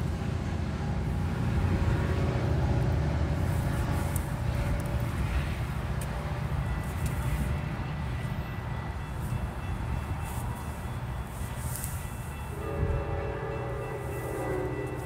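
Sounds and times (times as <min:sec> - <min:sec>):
distant train horn: 0:00.0 - 0:15.0.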